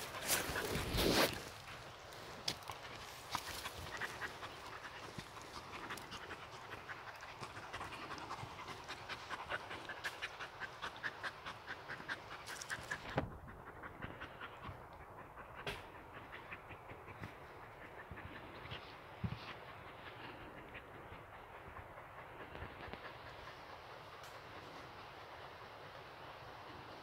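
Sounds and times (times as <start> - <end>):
dog panting fast: 2.8 - 26.0.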